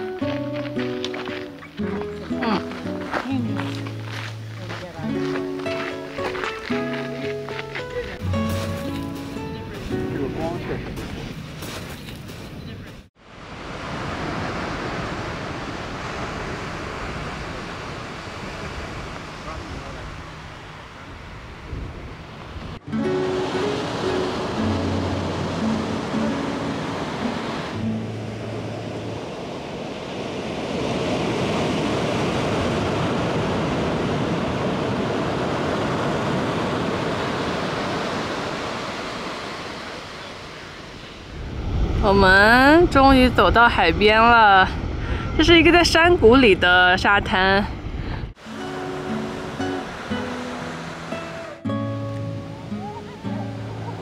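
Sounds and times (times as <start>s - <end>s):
ocean surf: 0.0s - 54.0s
wind buffeting microphone: 7.4s - 22.8s, 23.4s - 51.6s.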